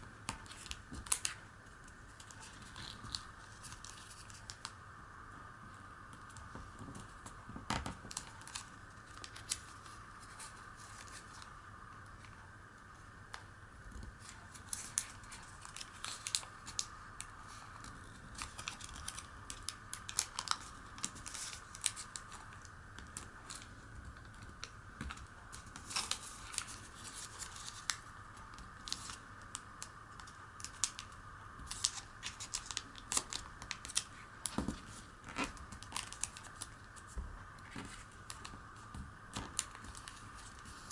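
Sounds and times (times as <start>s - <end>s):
faint background noise: 0.0s - 40.9s
paper being folded: 0.3s - 4.8s, 6.1s - 12.4s, 14.1s - 40.9s.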